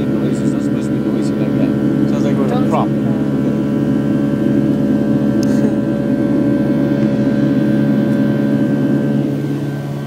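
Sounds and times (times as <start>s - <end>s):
airliner engine drone in cabin: 0.0s - 10.0s.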